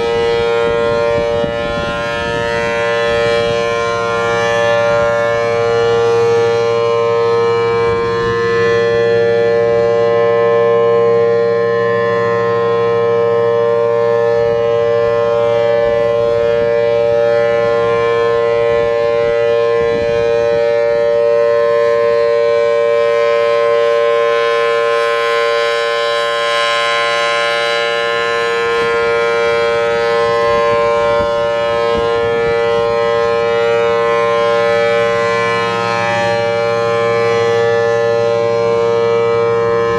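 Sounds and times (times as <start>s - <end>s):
warning siren dual tone: 0.0s - 39.9s.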